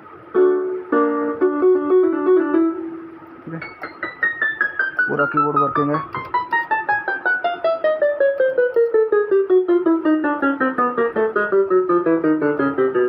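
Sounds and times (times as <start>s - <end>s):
keyboard playing descending notes: 0.0s - 13.0s.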